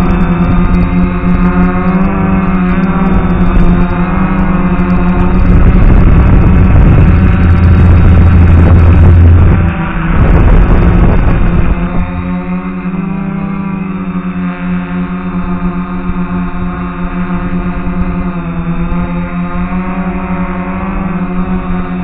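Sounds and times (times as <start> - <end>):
drone motors droning hum: 0.0 - 22.0.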